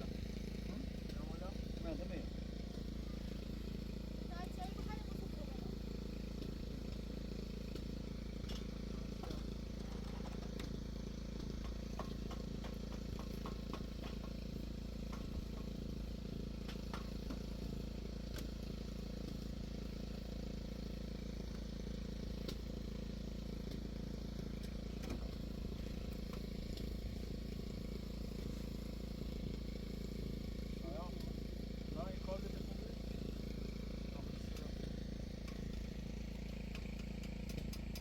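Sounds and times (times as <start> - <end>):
low mechanical drone: 0.0 - 38.0.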